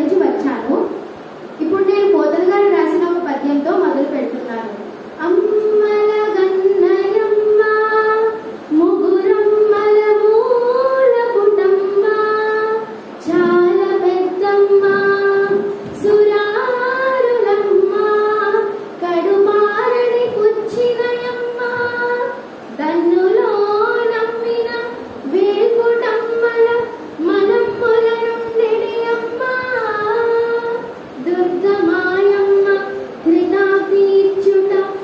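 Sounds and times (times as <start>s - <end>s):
high voice chanting melodically: 1.7s - 35.0s.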